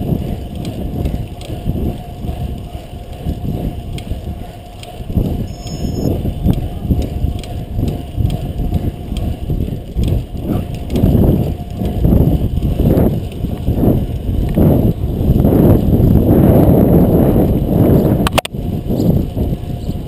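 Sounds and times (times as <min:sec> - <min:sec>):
bicycle tyre and road noise: 0:00.0 - 0:20.0.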